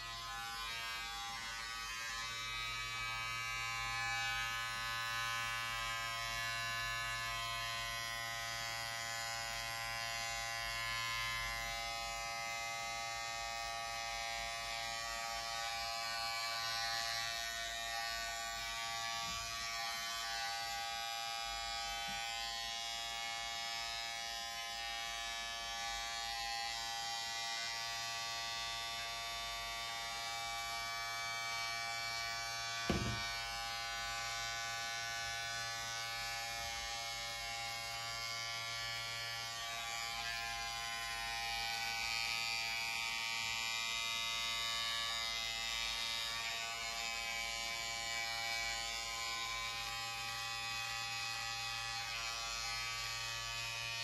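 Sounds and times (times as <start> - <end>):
electric hair clippers buzzing: 0.0 - 54.0.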